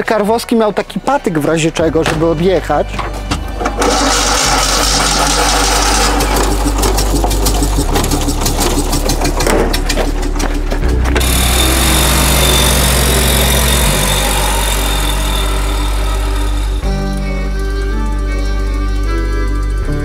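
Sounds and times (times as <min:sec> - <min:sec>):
background music: 0:00.0 - 0:20.0
clattering car engine: 0:01.9 - 0:20.0.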